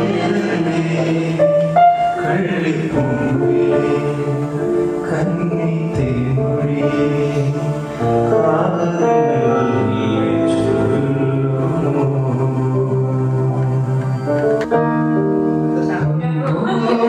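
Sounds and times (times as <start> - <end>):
man singing into microphone: 0.0 - 14.4, 15.9 - 17.0
live band accompaniment: 0.0 - 17.0.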